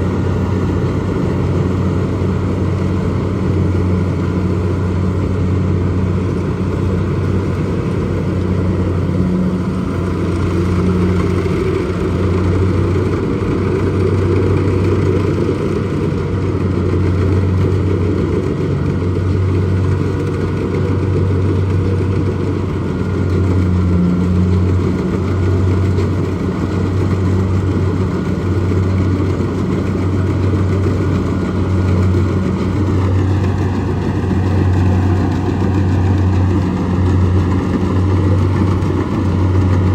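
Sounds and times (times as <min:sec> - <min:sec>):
diesel engine low drone: 0:00.0 - 0:39.9.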